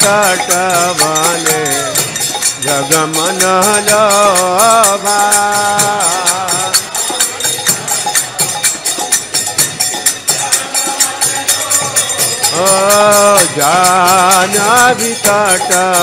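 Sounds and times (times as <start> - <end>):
group of voices singing: 0.0 - 16.0
small hand cymbals clashing: 0.0 - 16.0.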